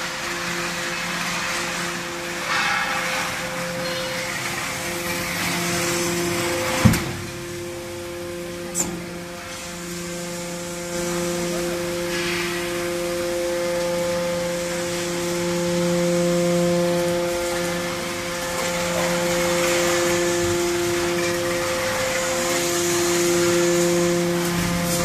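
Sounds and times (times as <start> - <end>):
hydraulic pump whine: 0.0 - 25.0.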